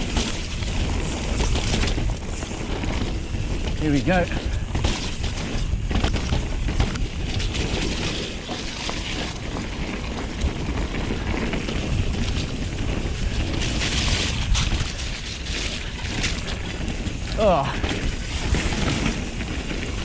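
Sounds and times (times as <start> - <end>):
bike clicks and rattles: 0.0 - 20.0
rolling bike tyres: 0.0 - 20.0
wind buffeting microphone: 0.0 - 20.0.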